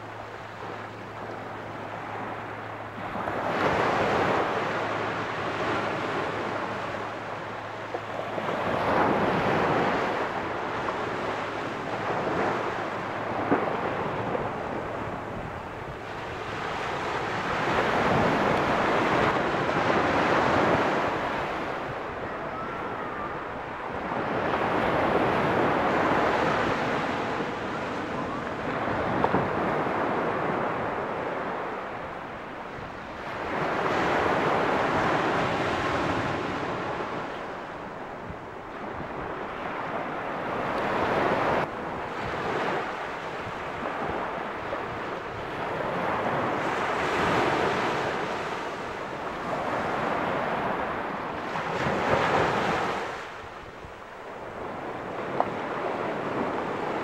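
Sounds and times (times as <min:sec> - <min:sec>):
waves washing up a beach: 0:00.0 - 0:57.0
wind on microphone: 0:00.0 - 0:57.0.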